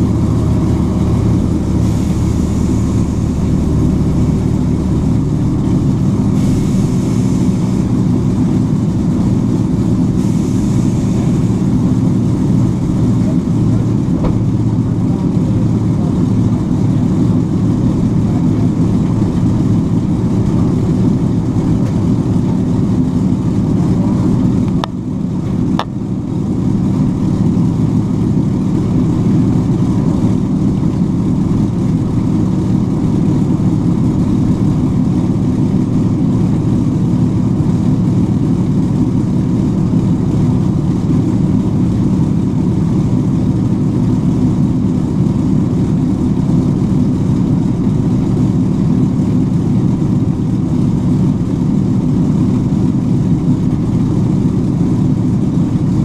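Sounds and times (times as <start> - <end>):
aircraft piston engines droning: 0.0 - 56.0.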